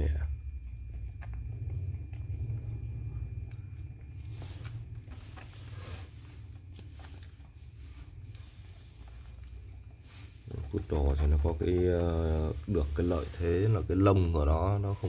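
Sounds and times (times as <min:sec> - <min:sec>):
low rumble of handling: 0:00.0 - 0:15.0
puppies suckling: 0:00.3 - 0:15.0.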